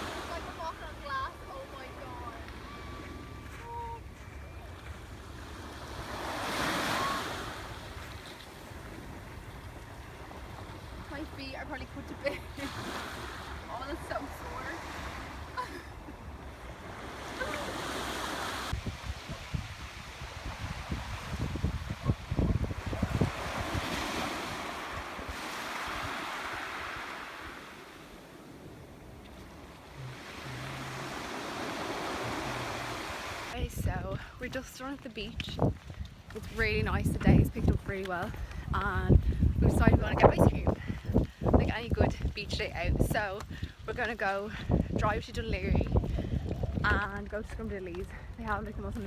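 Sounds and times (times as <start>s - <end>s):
sea waves washing onto shore: 0.0s - 49.0s
wind rumbling on microphone: 0.0s - 49.0s.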